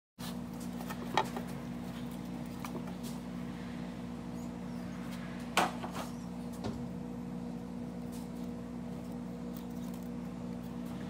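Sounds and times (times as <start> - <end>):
steady hum: 0.2 - 11.0.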